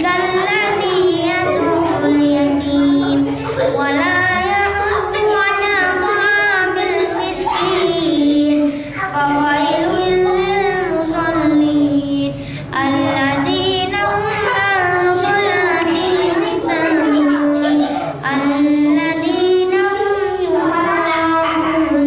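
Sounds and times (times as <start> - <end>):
boy chanting melodic recitation: 0.0 - 22.0.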